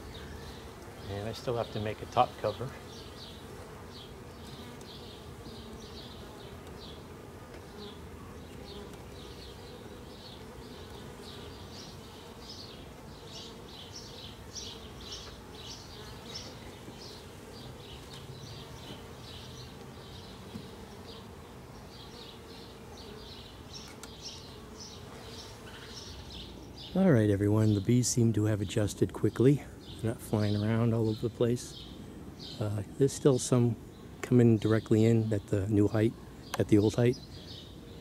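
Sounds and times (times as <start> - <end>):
bees buzzing: 0.0 - 38.0.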